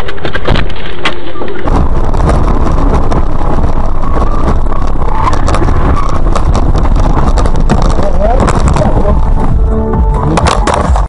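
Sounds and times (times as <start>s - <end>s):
car driving rumble: 0.0s - 11.0s
knocks and rattles: 0.0s - 11.0s
road and wind noise: 0.0s - 11.0s.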